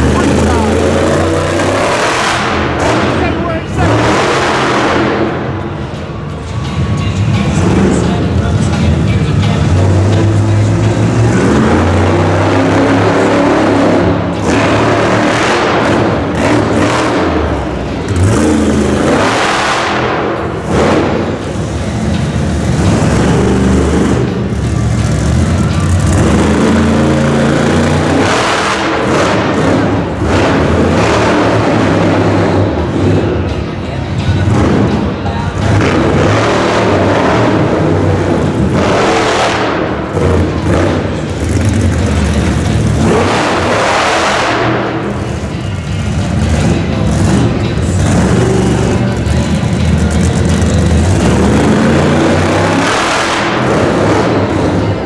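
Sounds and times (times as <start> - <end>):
monster truck engine revving: 0.0 - 55.0.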